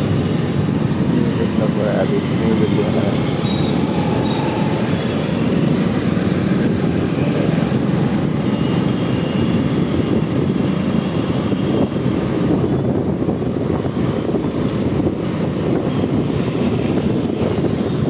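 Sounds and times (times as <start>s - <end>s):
motorcycle engines: 0.0s - 18.0s
road noise: 0.0s - 18.0s
wind on microphone: 0.0s - 18.0s.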